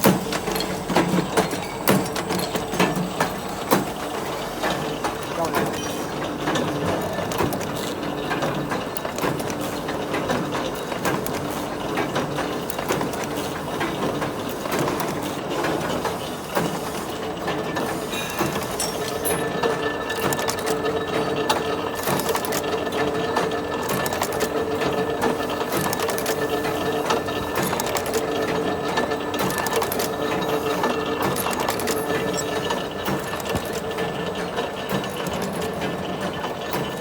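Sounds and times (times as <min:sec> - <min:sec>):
machine clattering over hum: 0:00.0 - 0:37.0.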